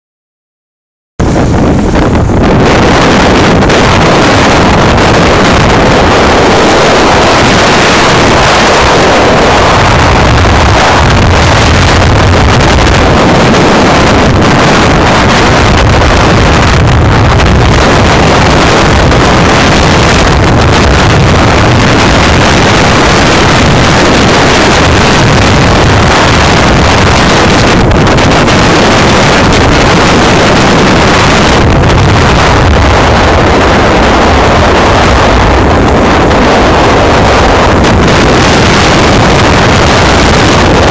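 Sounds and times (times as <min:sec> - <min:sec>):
road noise: 0:01.2 - 0:40.9
wind noise on microphone: 0:01.2 - 0:40.9.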